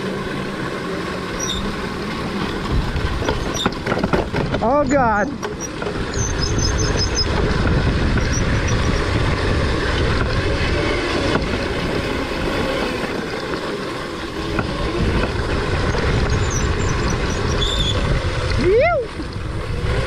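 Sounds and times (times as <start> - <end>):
electric motor whine: 0.0 - 20.0
tyres on gravel: 0.0 - 20.0
wind buffeting microphone: 1.6 - 20.0.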